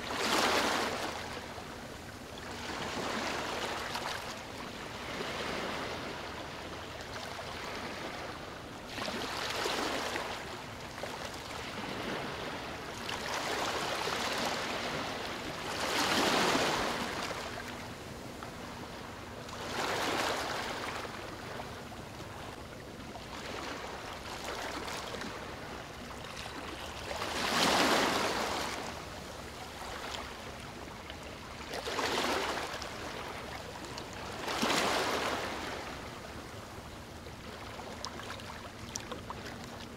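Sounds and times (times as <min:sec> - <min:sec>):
ocean waves and surf: 0:00.0 - 0:39.9.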